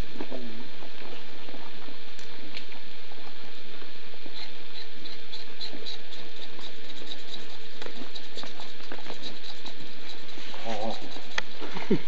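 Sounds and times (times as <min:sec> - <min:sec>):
faint hum: 0:00.0 - 0:12.0
steady hiss: 0:00.0 - 0:12.0.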